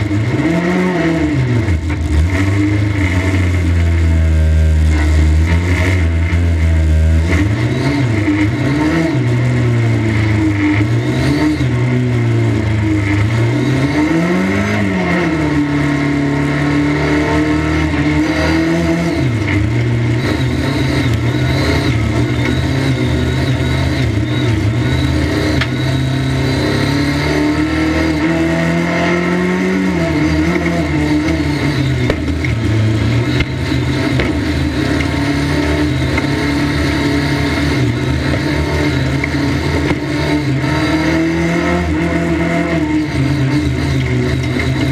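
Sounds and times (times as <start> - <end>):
race car engine at speed: 0.0 - 44.9.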